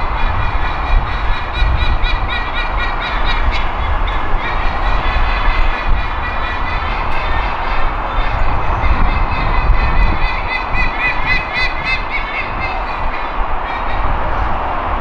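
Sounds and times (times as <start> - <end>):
sea eagles honking: 0.0 - 14.5
heavy expressway traffic rumble: 0.0 - 15.0.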